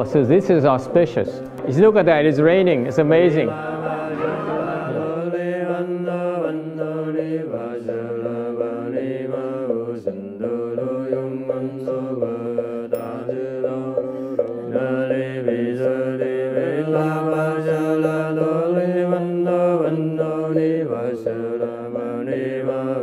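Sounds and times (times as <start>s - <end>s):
voices chanting: 0.0s - 23.0s.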